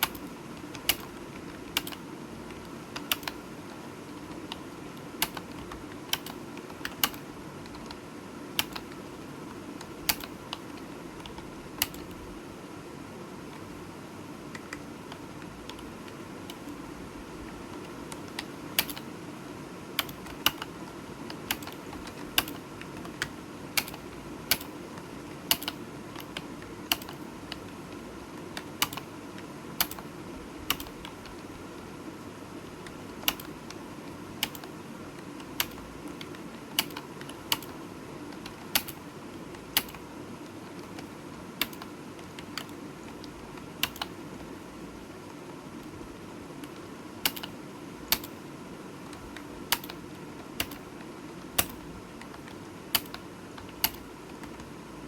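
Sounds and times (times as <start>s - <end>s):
computer keyboard keystrokes: 0.0s - 12.2s, 14.5s - 16.8s, 17.4s - 19.1s, 19.9s - 31.9s, 32.7s - 44.6s, 46.6s - 48.4s, 49.1s - 54.8s.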